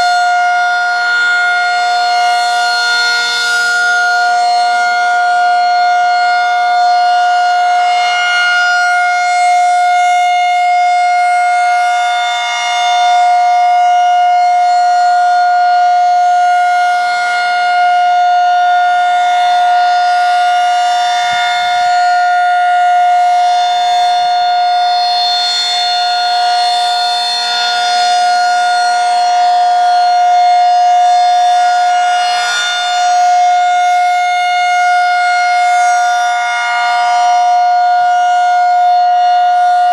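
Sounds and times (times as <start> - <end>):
rotating warning siren steady tone: 0.0 - 39.9.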